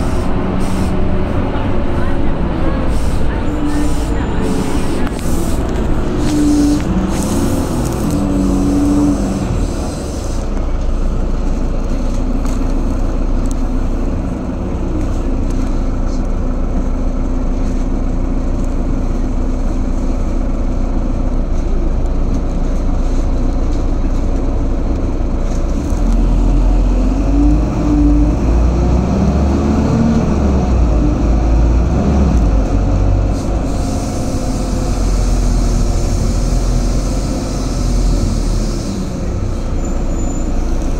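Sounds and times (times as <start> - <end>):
bus engine and road rumble: 0.0 - 40.9.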